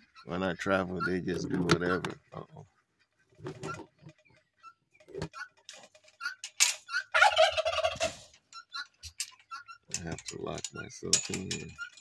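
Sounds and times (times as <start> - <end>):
turkey gobbling: 0.0 - 9.9.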